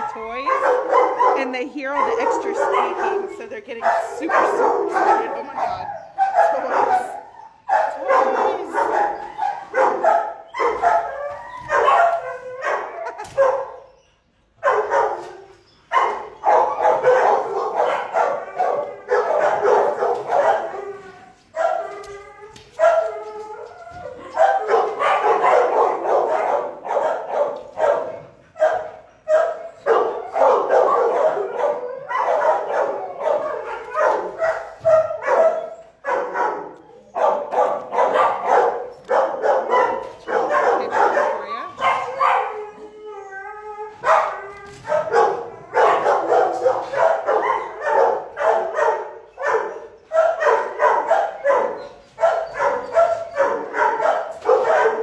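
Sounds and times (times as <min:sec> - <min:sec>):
dogs barking: 0:00.0 - 0:43.0, 0:44.0 - 0:55.0.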